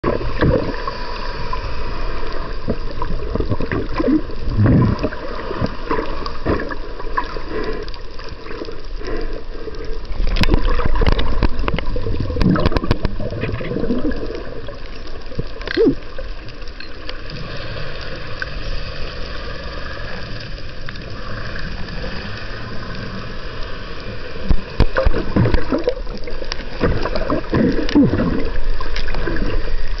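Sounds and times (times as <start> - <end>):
gurgling bubbles: 0.0 - 23.4, 24.1 - 30.0
underwater hiss and rumble: 0.0 - 30.0.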